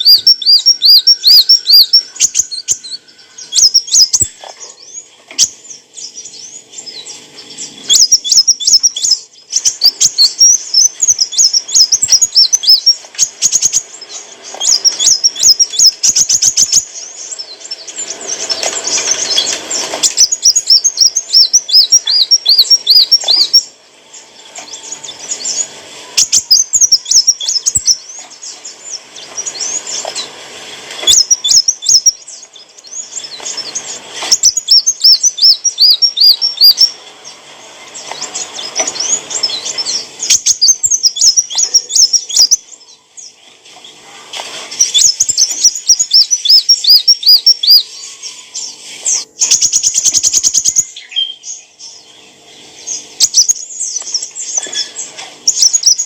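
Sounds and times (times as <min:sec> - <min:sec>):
bird twittering chirps: 0:00.0 - 0:44.0, 0:44.7 - 0:56.0.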